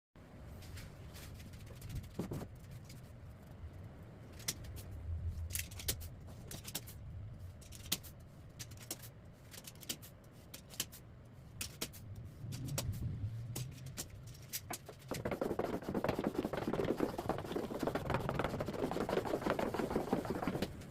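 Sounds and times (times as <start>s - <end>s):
low steady hum: 0.2s - 20.9s.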